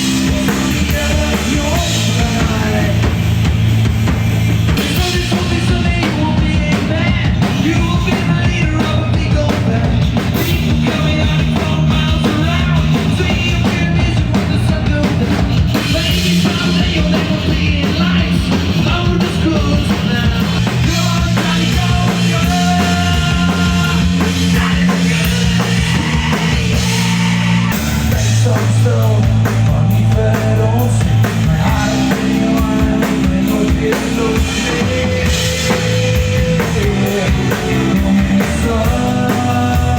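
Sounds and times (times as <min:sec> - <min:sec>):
drum kit beat: 0:00.0 - 0:39.9
rock band playing live: 0:00.0 - 0:39.9.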